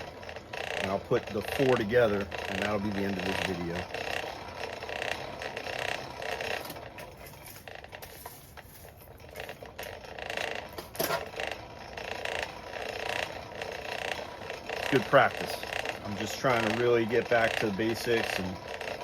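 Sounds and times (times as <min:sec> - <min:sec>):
forge blower rushing: 0:00.0 - 0:19.0.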